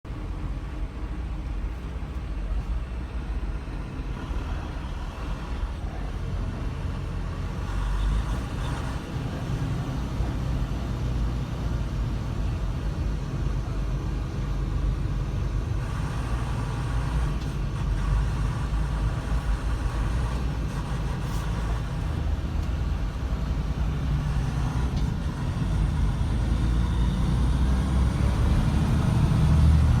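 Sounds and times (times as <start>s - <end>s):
vehicle engine and road rumble: 0.0s - 30.0s.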